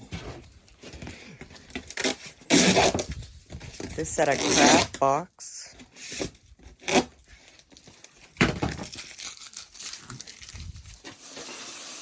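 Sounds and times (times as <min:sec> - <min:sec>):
craft supplies crinkling and rustling: 0:00.0 - 0:11.5.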